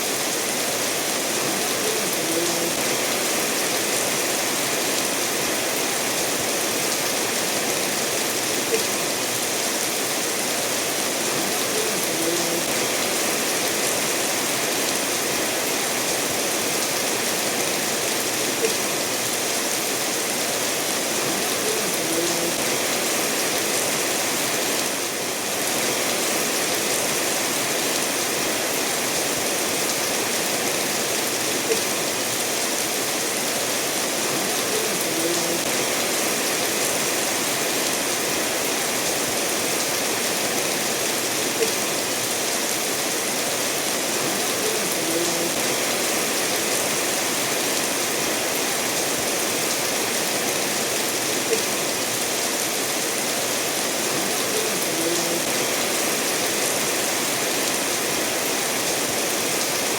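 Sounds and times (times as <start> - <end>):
steady rainfall: 0.0 - 59.9
stream running over stones: 0.0 - 59.9.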